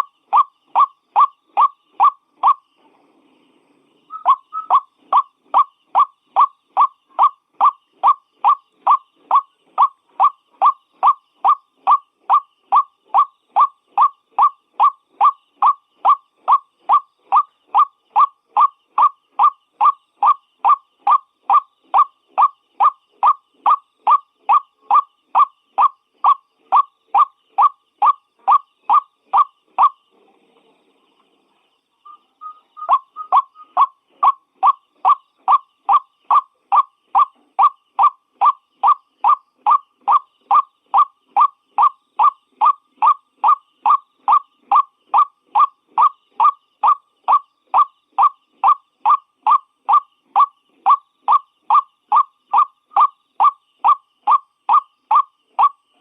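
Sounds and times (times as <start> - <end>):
waterhen calling: 4.1 - 30.0, 32.1 - 55.8.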